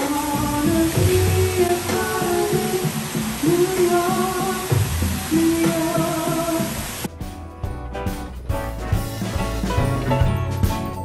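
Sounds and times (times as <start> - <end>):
music with drums and bass: 0.0 - 11.0.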